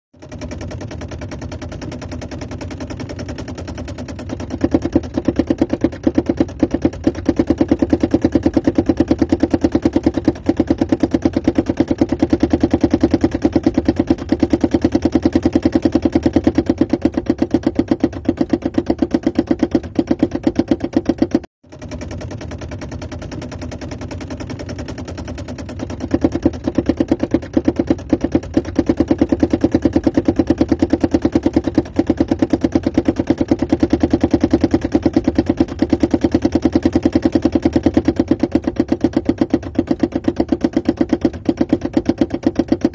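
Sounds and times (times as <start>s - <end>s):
rapid knocking under car: 0.2s - 42.9s.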